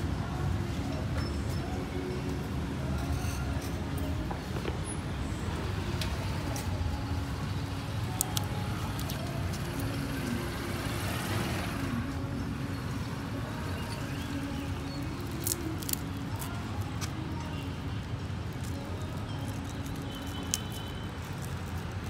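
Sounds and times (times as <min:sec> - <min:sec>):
low rumble of vehicle engines: 0:00.0 - 0:22.0.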